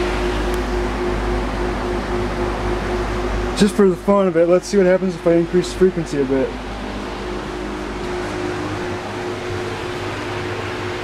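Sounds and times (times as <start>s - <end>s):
fan air rushing: 0.0s - 11.0s
fan motor hum: 0.0s - 11.0s.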